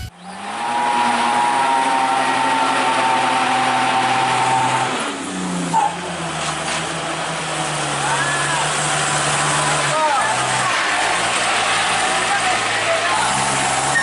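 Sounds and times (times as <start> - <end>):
truck engine pulling uphill: 0.0 - 14.0.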